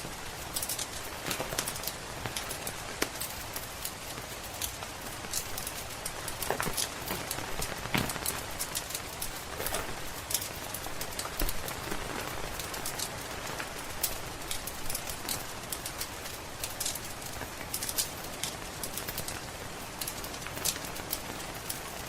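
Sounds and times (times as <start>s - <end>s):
rain pattering: 0.0s - 22.0s
wood fire crackling and popping: 0.0s - 22.0s.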